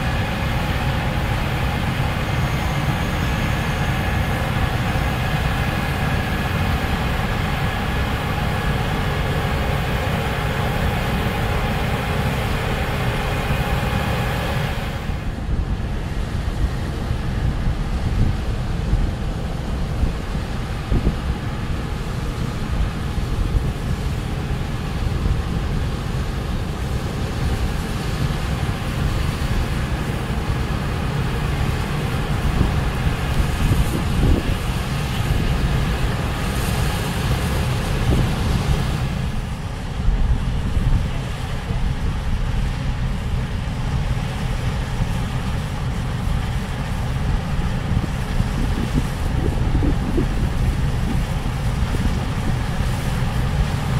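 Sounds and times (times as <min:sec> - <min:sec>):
combine harvester running: 0:00.0 - 0:53.9
tractor running: 0:00.0 - 0:53.9.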